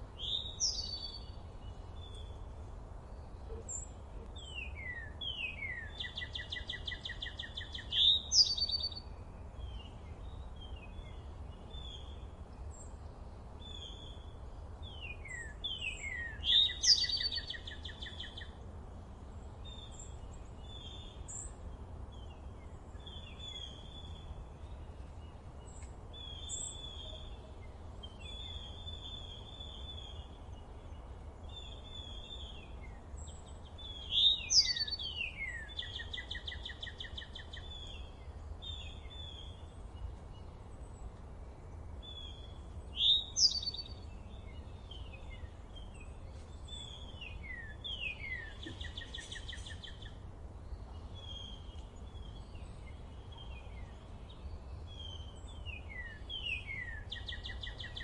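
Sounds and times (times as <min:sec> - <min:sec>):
songbirds singing: 0:00.0 - 0:58.0
bird song with buzzy trill: 0:00.2 - 0:02.4, 0:03.2 - 0:13.1, 0:13.7 - 0:18.6, 0:22.3 - 0:41.0, 0:42.0 - 0:58.0.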